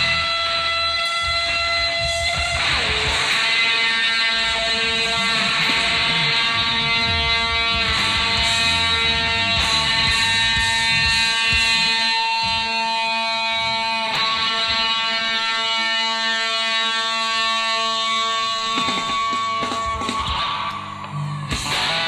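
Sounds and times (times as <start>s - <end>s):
electric guitar chords: 0.0s - 22.0s
picked guitar notes: 0.0s - 22.0s.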